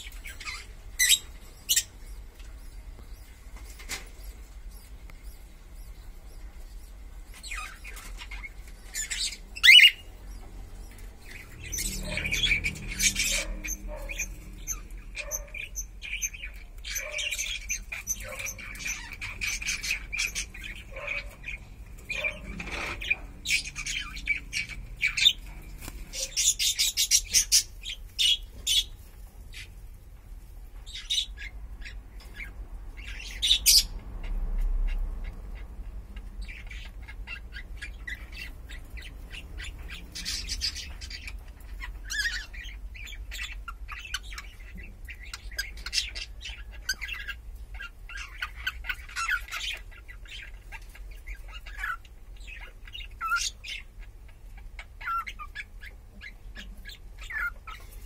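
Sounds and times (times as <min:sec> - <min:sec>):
cockatiels chirping and squawking: 0:00.0 - 0:29.8, 0:30.8 - 0:58.0.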